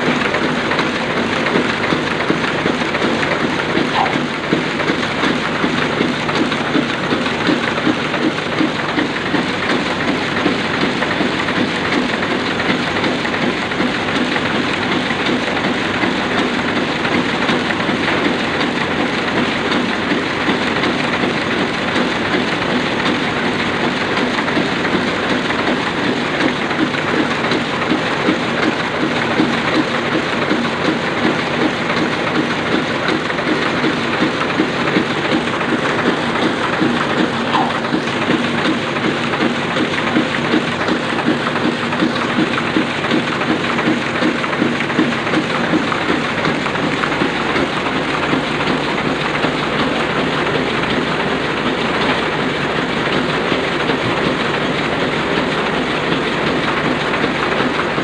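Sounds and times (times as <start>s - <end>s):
printing press mechanical clatter: 0.0s - 58.0s.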